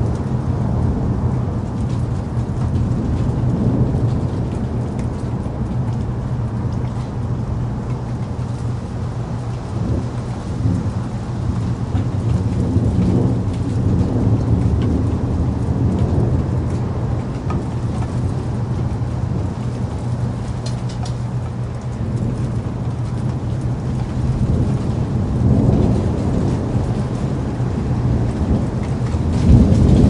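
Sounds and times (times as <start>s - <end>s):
low rolling thunder: 0.0s - 30.0s
steady rain: 0.0s - 30.0s.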